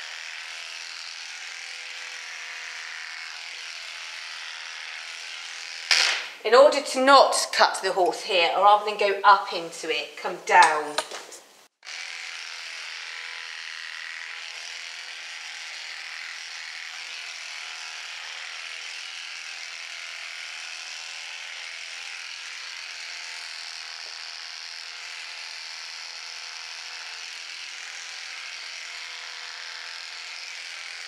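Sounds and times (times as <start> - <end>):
electric horse clippers buzzing: 0.0 - 31.0.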